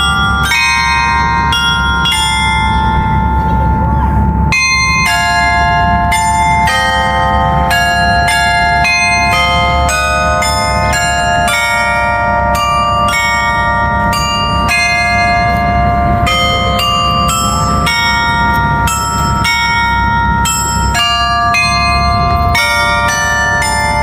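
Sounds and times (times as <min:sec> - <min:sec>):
carillon bells playing melody: 0:00.0 - 0:24.0.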